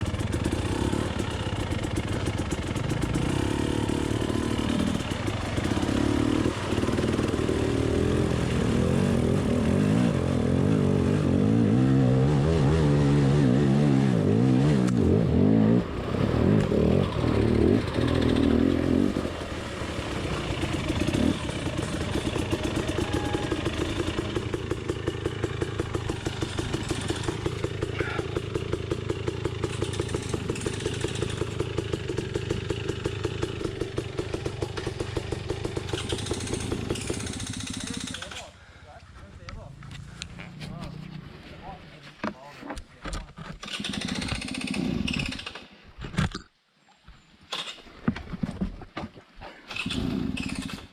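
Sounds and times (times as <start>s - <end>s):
dirt bike engine revving: 0.0s - 38.6s, 43.6s - 45.7s, 49.7s - 50.9s
dirt bike engine idling: 0.0s - 41.8s.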